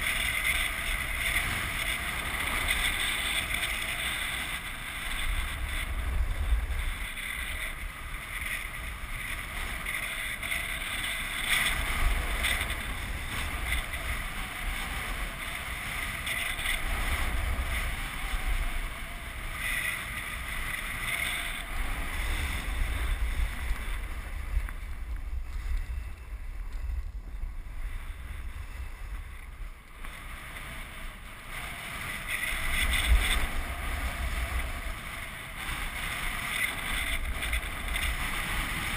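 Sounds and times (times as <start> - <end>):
snowboard scraping snow: 0.0 - 38.9
wind on microphone: 0.0 - 38.9.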